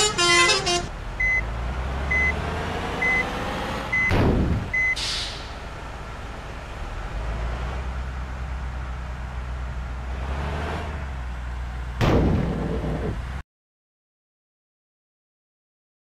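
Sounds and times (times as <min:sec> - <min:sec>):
bus or truck engine rumbling: 0:00.0 - 0:13.4.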